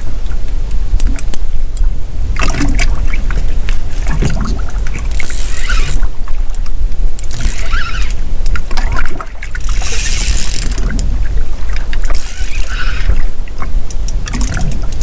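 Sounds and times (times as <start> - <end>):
boat engine rumble: 0.0 - 15.0
wind on microphone: 0.0 - 15.0.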